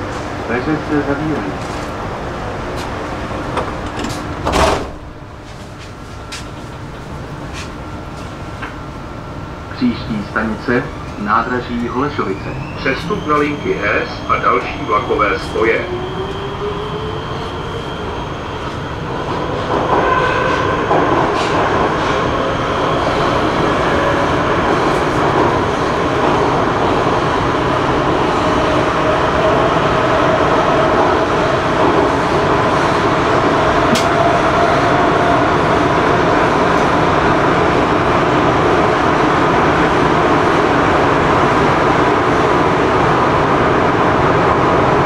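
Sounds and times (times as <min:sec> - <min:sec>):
train wheel and track rumble: 0:00.0 - 0:45.0.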